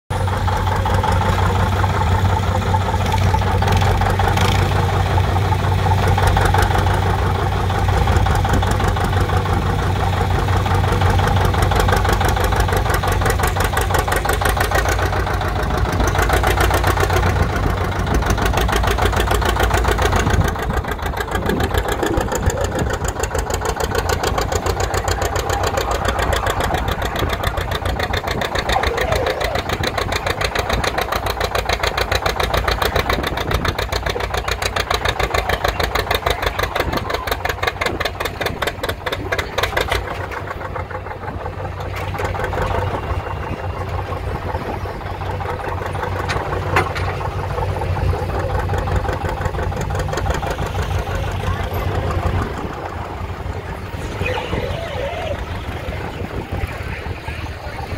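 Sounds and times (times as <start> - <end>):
diesel tractor engine running: 0.1 - 57.9.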